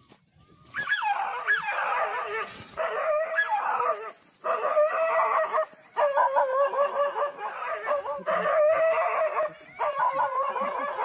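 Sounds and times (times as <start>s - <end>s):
dog yelping and whining: 0.8s - 8.0s, 8.7s - 11.0s.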